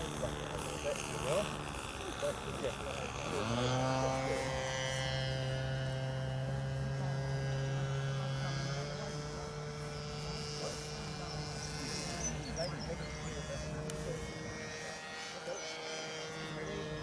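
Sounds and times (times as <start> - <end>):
model glider motor and propeller hum: 0.0 - 17.0.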